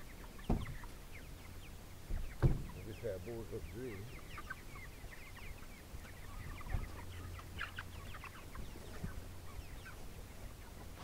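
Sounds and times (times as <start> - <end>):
chickens clucking and peeping: 0.0 - 11.0.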